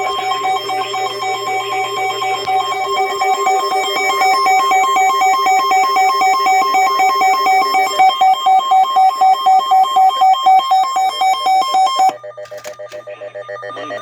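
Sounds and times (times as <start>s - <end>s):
pulsing electronic alert tone: 0.0s - 12.4s.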